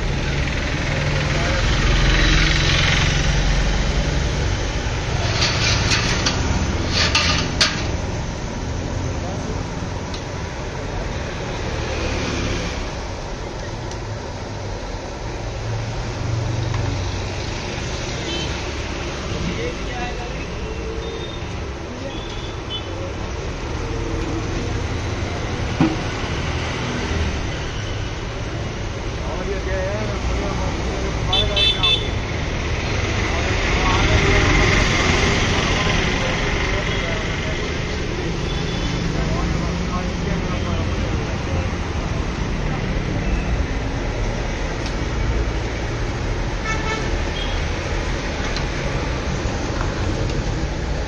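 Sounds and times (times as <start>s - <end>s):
traffic noise: 0.0s - 51.0s.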